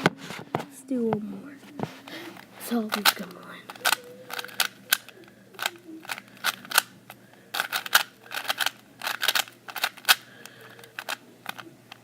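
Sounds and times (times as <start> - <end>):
puzzle cube plastic clicks: 2.3 - 12.0.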